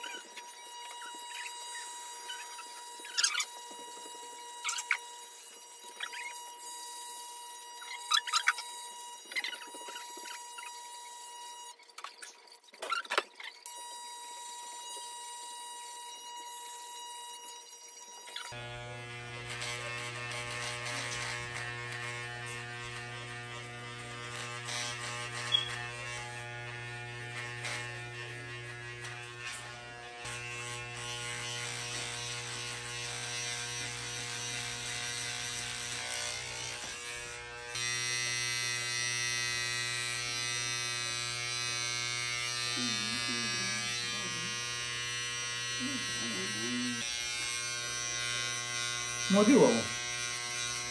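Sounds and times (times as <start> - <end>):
electric hair clippers buzzing: 0.0 - 11.8, 13.6 - 50.9.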